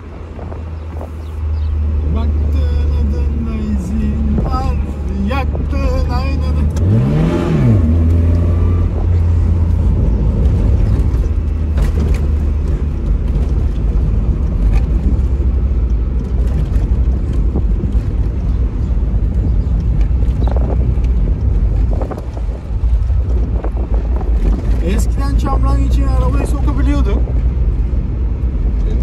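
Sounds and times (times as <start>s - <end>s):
car engine drone from inside: 0.0s - 29.0s
road noise: 0.0s - 29.0s.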